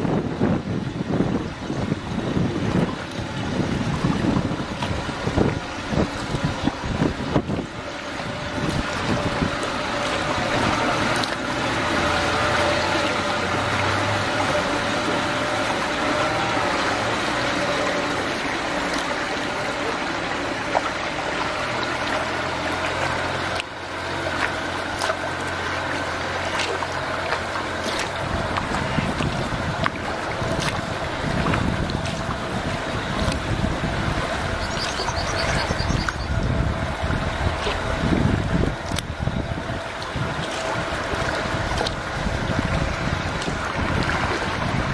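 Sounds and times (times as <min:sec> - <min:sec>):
outboard motor humming: 0:00.0 - 0:44.9
rushing water and wind: 0:00.0 - 0:44.9.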